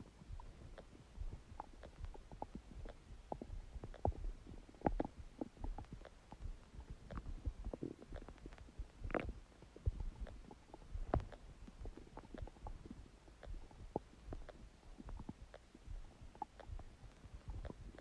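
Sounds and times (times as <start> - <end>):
stomach gurgling and rumbling: 0.0 - 18.0.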